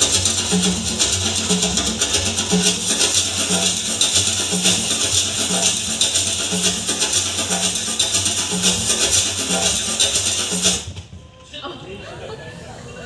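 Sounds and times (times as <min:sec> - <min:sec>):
dance music: 0:00.0 - 0:11.0.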